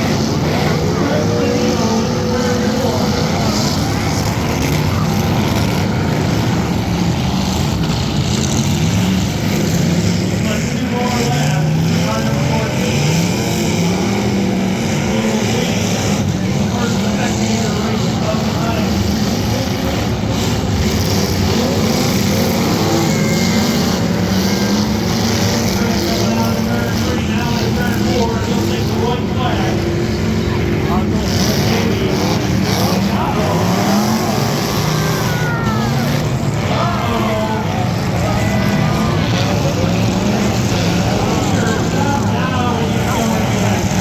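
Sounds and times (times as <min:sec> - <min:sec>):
car engines running: 0:00.0 - 0:44.0.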